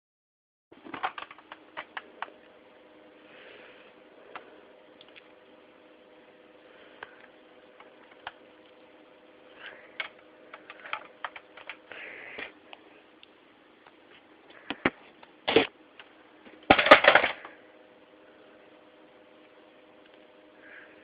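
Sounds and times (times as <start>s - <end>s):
faint steady hum: 0.7s - 21.0s.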